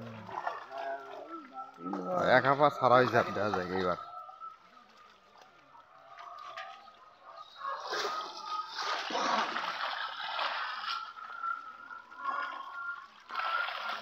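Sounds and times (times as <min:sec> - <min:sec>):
fish thrashing and splashing: 0:00.0 - 0:14.0.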